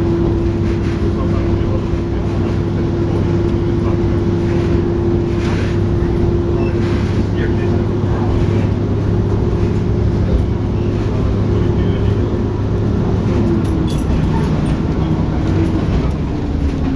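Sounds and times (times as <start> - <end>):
railcar diesel engine drone: 0.0 - 16.9.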